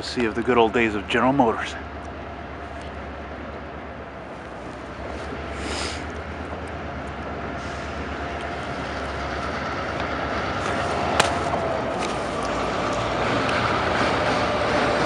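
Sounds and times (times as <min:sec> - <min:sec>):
diesel locomotive engine rumbling: 0:00.0 - 0:15.0.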